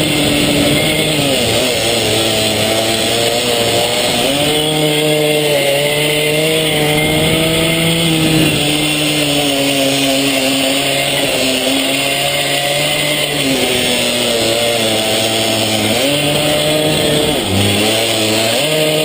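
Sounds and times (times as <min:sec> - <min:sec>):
small motorbike engine revving: 0:00.0 - 0:19.0.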